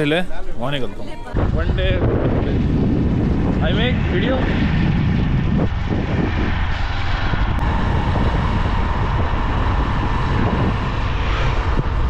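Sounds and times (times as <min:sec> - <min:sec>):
road noise: 0:00.0 - 0:12.0
wind rush over microphone: 0:01.3 - 0:12.0.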